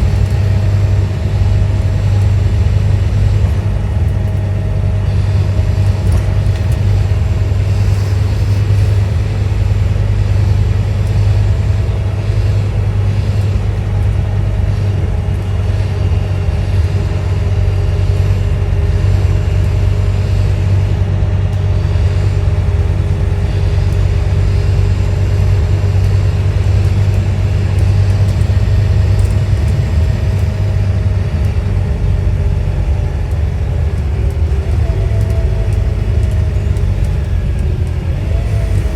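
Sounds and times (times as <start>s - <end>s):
bus diesel engine rumbling: 0.0s - 38.9s
faint steady whine: 0.0s - 38.9s.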